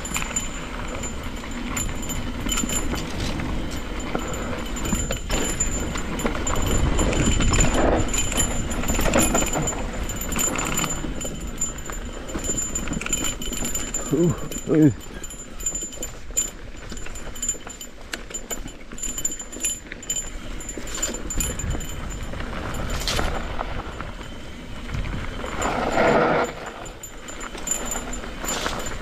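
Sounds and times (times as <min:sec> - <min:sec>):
wind noise on microphone: 0:00.0 - 0:17.6, 0:20.2 - 0:29.0
bike rattling over rocks: 0:00.0 - 0:29.0.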